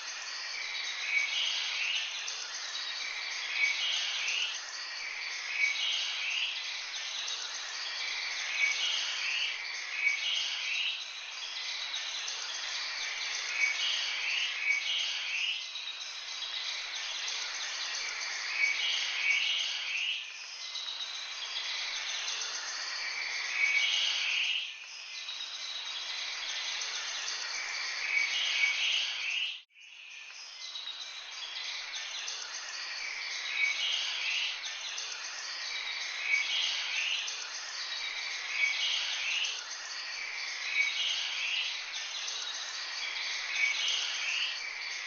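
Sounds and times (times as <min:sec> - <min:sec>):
steady high hiss: 0:00.0 - 0:45.0.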